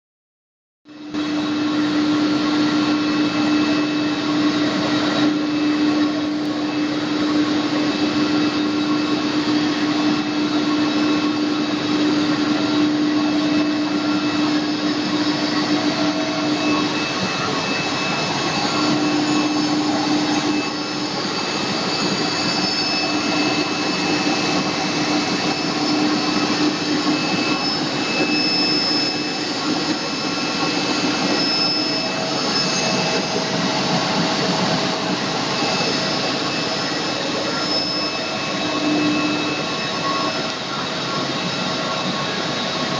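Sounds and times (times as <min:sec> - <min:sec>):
machinery whirring and humming: 0:00.9 - 0:42.9.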